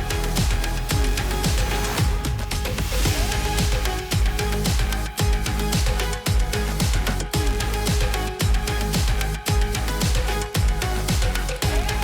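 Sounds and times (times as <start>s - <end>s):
deep kick drums dropping in pitch: 0.0s - 12.0s
electronic music: 0.0s - 12.0s.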